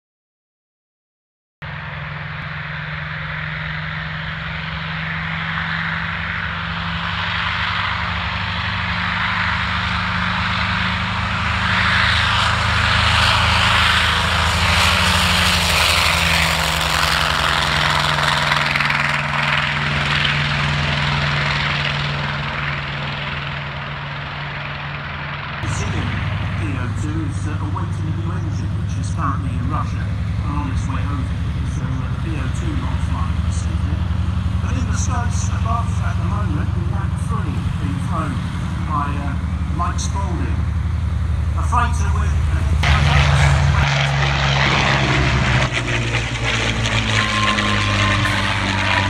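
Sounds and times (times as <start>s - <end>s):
propeller airplane flying past: 1.6s - 49.0s.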